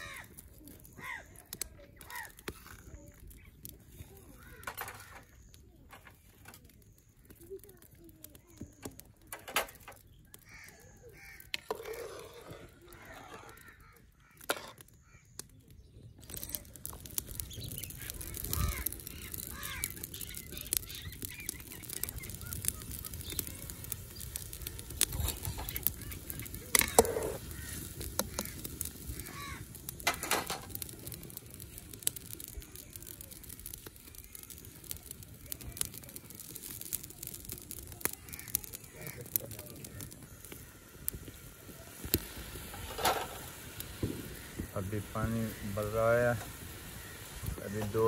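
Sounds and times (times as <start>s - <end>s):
birds calling: 0.0s - 7.5s, 8.4s - 48.0s
wood fire crackling: 0.0s - 48.0s.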